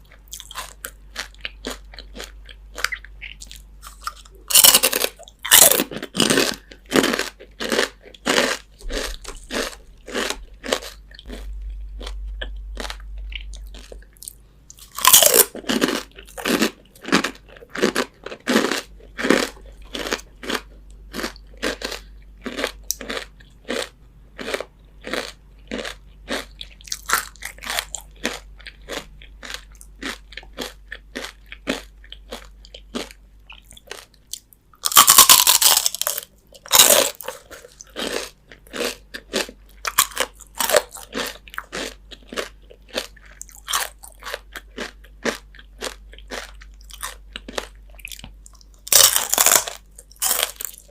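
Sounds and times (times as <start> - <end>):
chewing crunchy fried chicken: 0.0 - 50.9.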